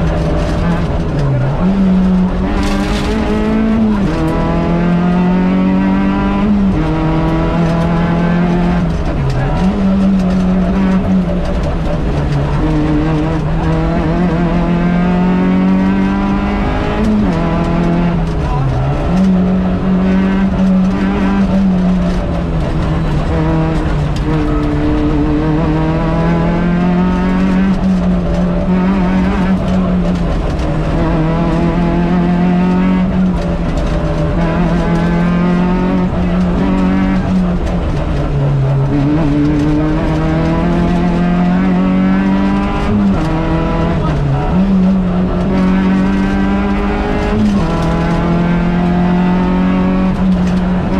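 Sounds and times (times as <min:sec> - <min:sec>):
rally car engine accelerating: 0:00.0 - 0:50.9
road and tyre noise: 0:00.0 - 0:50.9.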